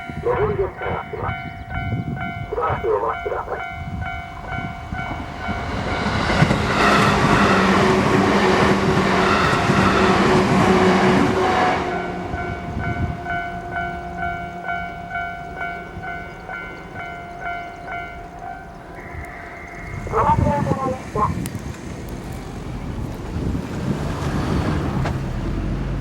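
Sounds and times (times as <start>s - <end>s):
crossing warning bell ringing: 0.0s - 21.5s
train passing: 0.0s - 26.0s.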